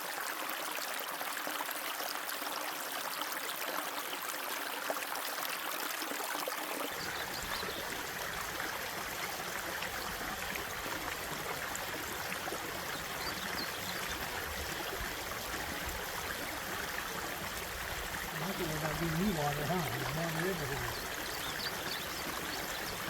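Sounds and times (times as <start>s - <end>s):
creek rushing: 0.0s - 23.0s.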